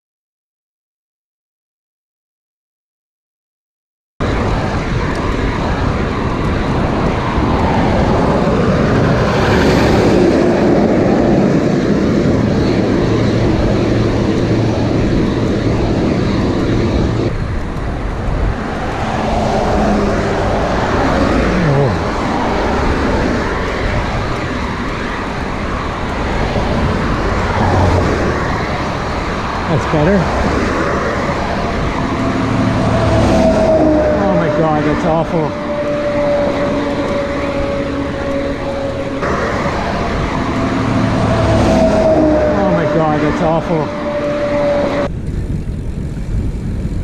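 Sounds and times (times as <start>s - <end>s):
vehicles passing: 4.2s - 47.0s
wind on microphone: 4.2s - 47.0s.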